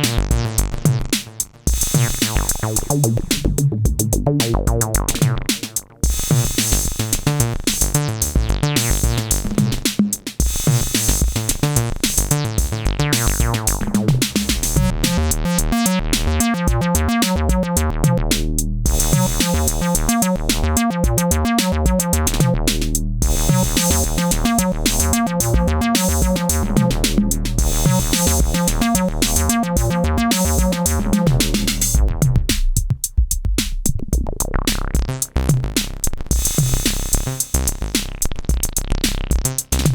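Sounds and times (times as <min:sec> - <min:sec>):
acid bass line: 0:00.0 - 0:39.9
drum machine beat: 0:00.0 - 0:39.9.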